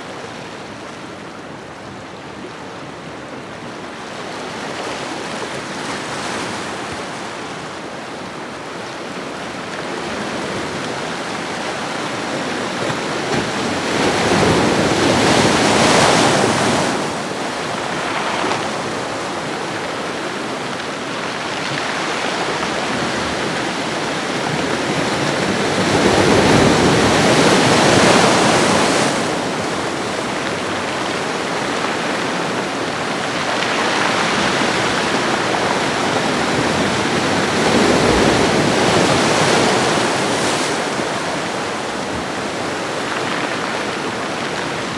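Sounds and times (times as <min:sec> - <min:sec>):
large waves breaking: 0:04.0 - 0:44.9.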